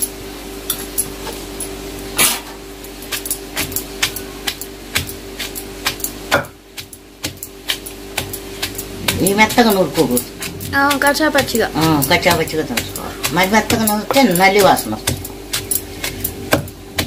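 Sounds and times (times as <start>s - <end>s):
pestle pounding in stone mortar: 3.0s - 17.0s.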